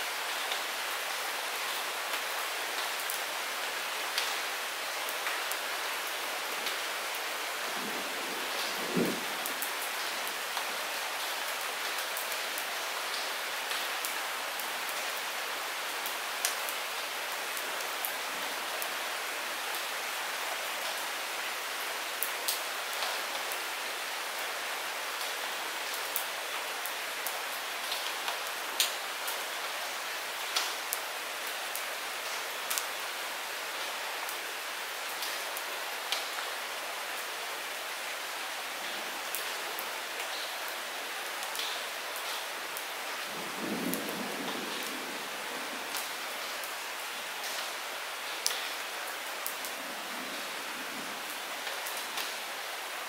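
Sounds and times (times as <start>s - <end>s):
light rain falling: 0.0s - 53.0s.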